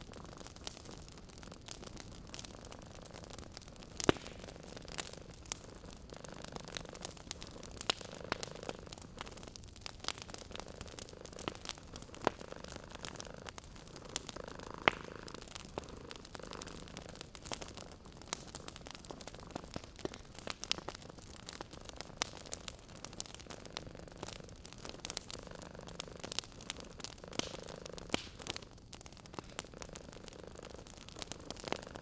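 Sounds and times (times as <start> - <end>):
cat purring: 0.0 - 32.0
wood fire crackling: 0.0 - 32.0.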